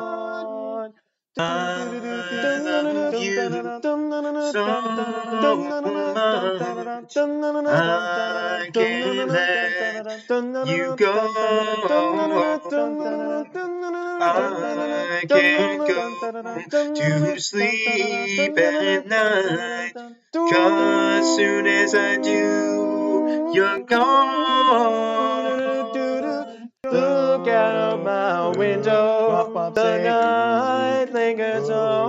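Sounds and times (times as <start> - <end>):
song with singing voices: 0.0 - 32.0.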